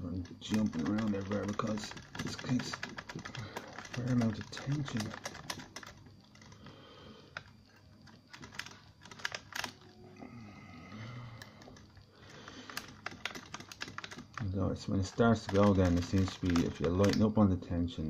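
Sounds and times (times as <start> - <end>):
faint irregular clicks: 0.0 - 10.0, 10.8 - 17.4.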